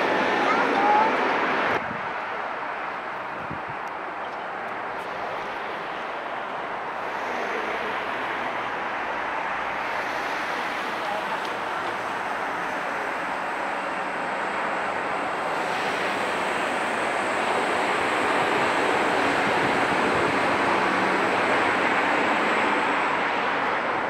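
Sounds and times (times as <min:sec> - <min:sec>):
road traffic passing: 0:00.0 - 0:24.0
tram rolling on tracks: 0:00.0 - 0:24.0.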